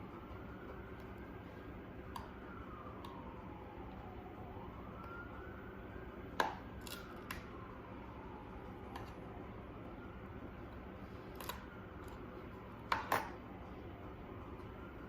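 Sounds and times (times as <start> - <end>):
faint siren wailing: 0.0 - 15.0.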